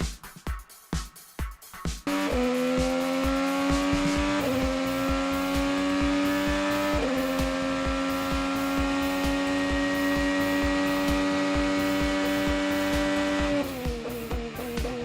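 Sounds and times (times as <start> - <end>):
racing engine at full throttle: 2.0 - 15.0.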